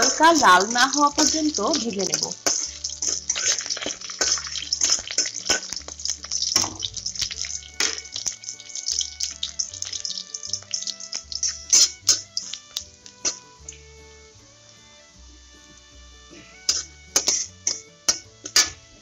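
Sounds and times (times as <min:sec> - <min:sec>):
oil spitting pops: 0:00.0 - 0:13.8, 0:16.4 - 0:18.8
garlic sizzling in hot oil: 0:00.0 - 0:19.0
soft background music: 0:00.0 - 0:19.0.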